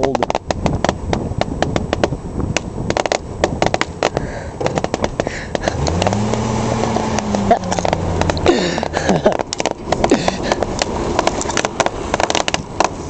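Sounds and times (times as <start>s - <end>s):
firecrackers popping: 0.0s - 13.0s.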